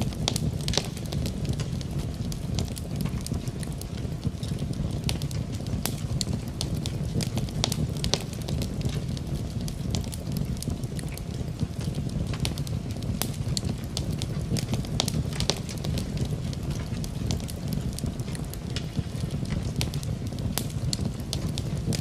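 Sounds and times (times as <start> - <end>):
rain: 0.0 - 22.0
wood fire crackling and popping: 0.0 - 22.0.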